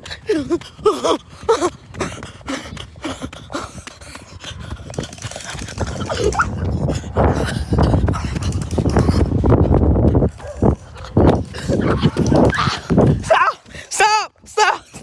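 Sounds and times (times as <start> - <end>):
running footsteps on asphalt: 0.0 - 15.0
wind and handling rumble: 0.0 - 15.0.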